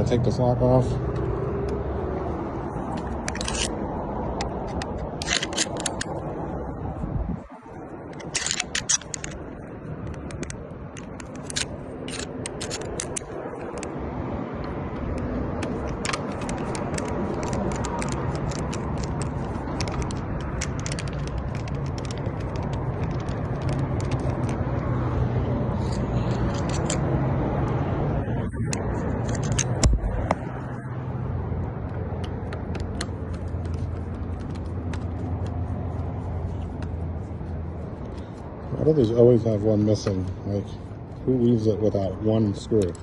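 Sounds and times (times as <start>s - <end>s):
tools clicking and scraping on metal: 2.9s - 6.3s, 8.1s - 14.0s, 14.6s - 27.8s, 28.6s - 30.9s, 31.8s - 43.0s.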